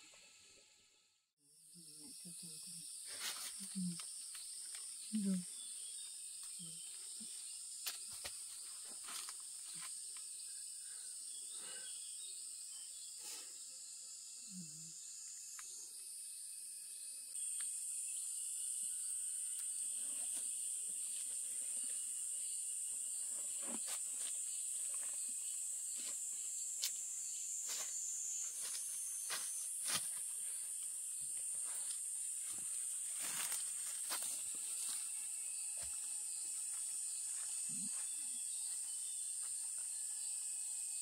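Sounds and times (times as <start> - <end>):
insects droning: 1.4 - 41.0.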